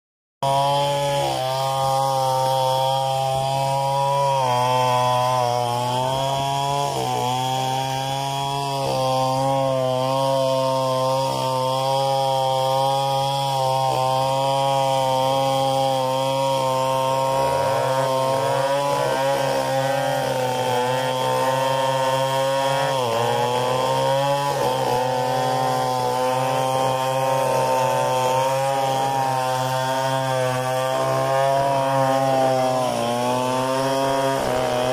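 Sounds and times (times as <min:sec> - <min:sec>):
chainsaw cutting log: 0:00.4 - 0:34.9.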